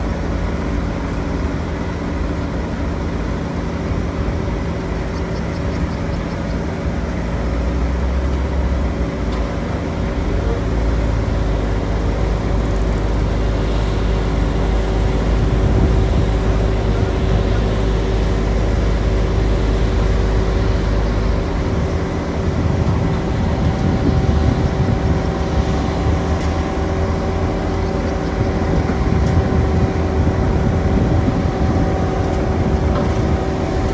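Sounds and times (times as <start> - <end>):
heavy machinery engines rumbling: 0.0 - 33.9.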